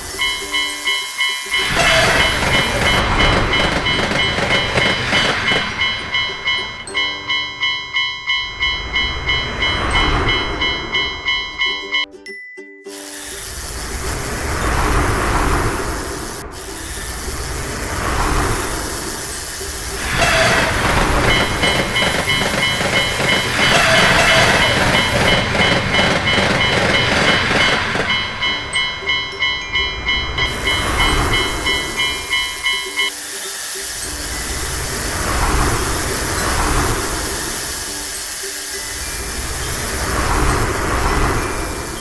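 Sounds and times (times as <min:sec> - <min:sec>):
trains rumbling past: 0:00.0 - 0:12.2, 0:13.1 - 0:42.0
level crossing alarm bell: 0:00.0 - 0:42.0.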